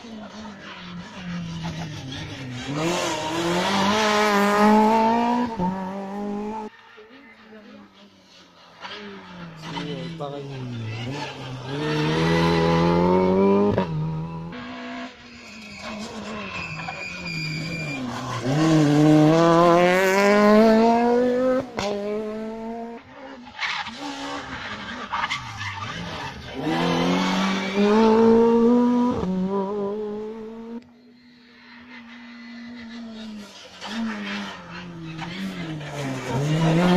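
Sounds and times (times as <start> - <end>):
rally car engines at full throttle: 0.0 - 36.9.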